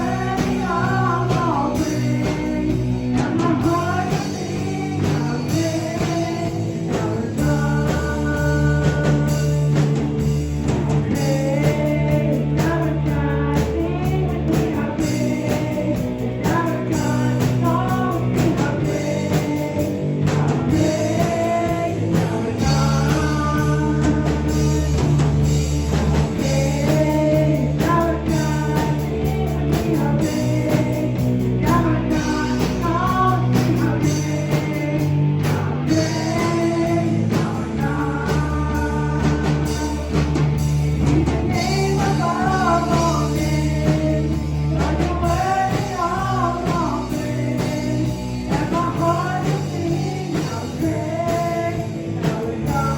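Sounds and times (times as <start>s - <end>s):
band accompaniment: 0.0s - 52.9s
person singing: 0.0s - 52.9s
sustained bass notes: 0.0s - 52.9s.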